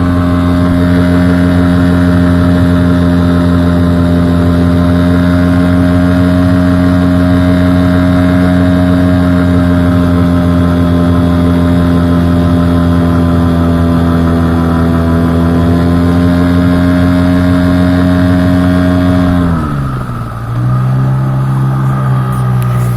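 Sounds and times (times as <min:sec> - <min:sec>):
outboard motor running: 0:00.0 - 0:22.9.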